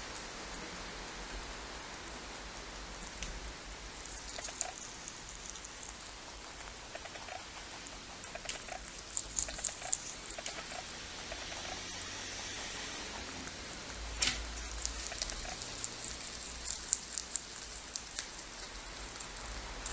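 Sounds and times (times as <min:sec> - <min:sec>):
steady hiss: 0:00.0 - 0:19.9
rabbit chewing greens: 0:02.5 - 0:19.9.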